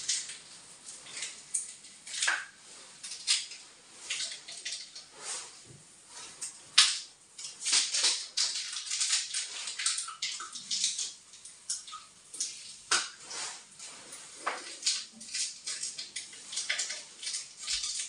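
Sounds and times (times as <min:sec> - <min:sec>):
scraping and clinking at a sink: 0:00.0 - 0:06.7, 0:07.4 - 0:18.0.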